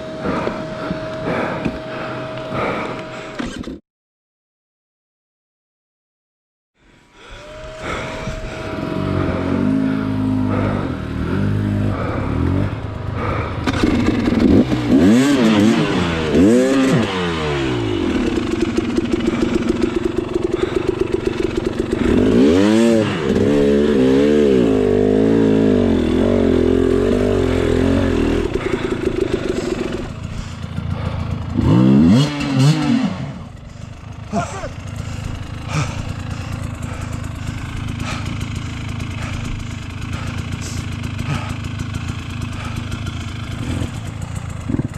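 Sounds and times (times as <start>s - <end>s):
dirt bike engine revving: 7.3s - 44.9s.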